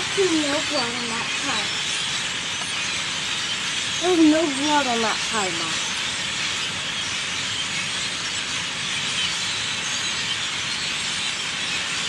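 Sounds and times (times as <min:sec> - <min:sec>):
large flock of birds chirping: 0:00.0 - 0:12.0.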